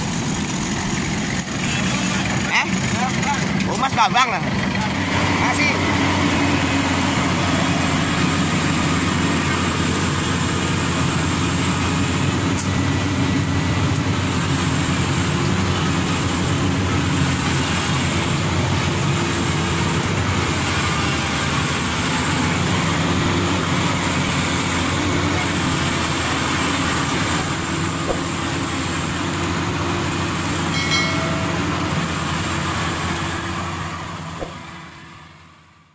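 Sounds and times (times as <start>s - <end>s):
combine harvester droning: 0.0s - 35.9s.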